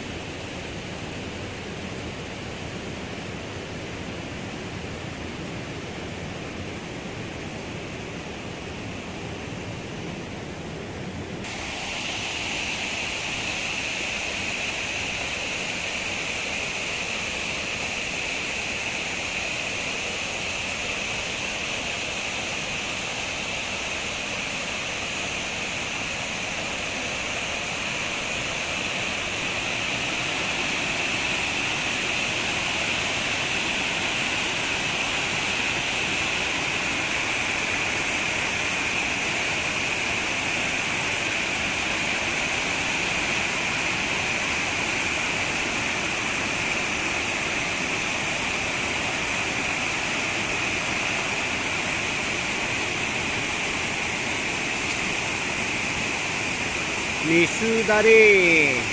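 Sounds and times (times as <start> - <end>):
water rushing over rock slabs: 11.4 - 58.9.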